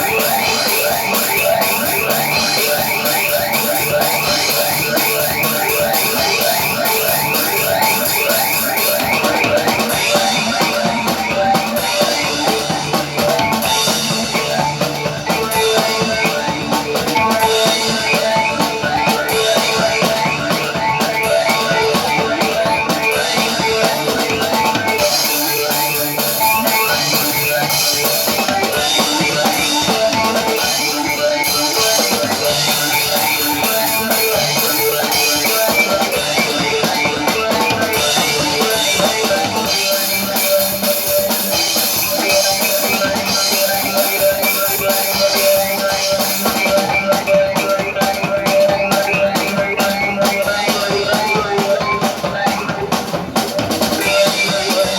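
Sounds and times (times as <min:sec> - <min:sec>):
distorted electric guitar: 0:00.0 - 0:54.9
drum kit: 0:00.0 - 0:54.9.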